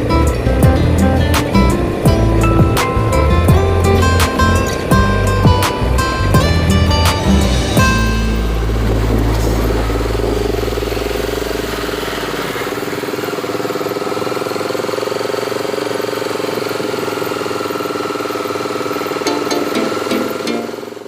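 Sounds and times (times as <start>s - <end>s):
motorcycle engine droning: 0.0s - 21.0s.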